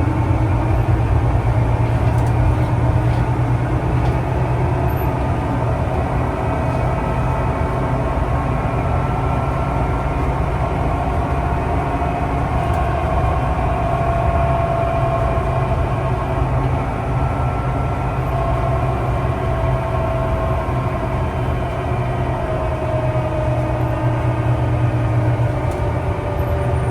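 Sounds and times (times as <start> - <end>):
vehicle interior hum and whine: 0.0 - 26.9.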